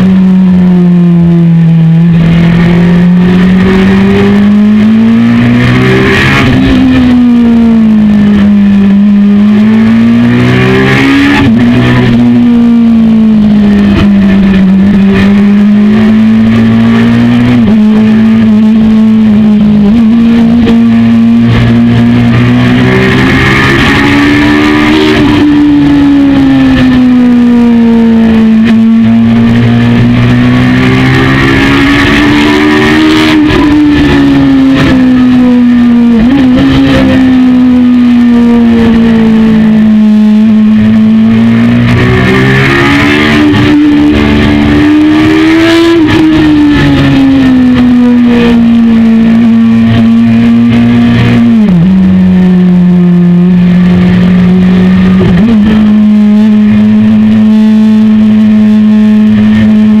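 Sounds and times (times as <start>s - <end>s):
loud wind rush: 0.0s - 57.6s
motorcycle engine at high revs: 0.0s - 60.0s.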